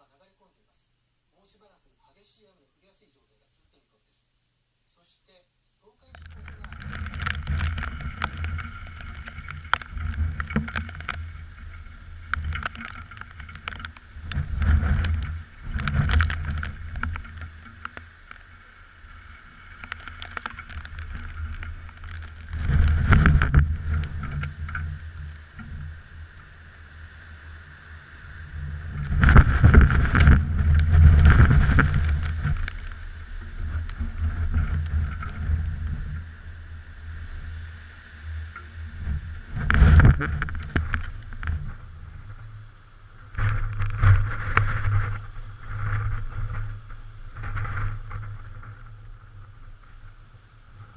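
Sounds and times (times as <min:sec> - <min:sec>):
wind buffeting microphone: 0:06.2 - 0:50.9.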